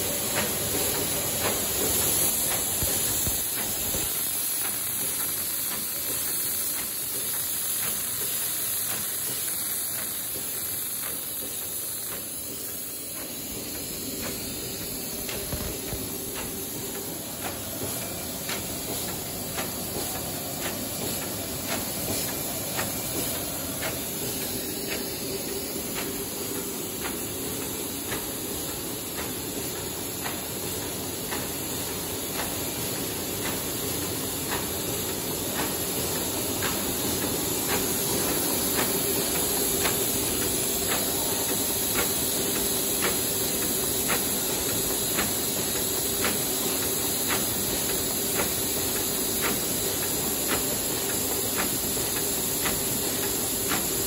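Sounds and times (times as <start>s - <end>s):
machine hiss and hum: 0.0s - 54.0s.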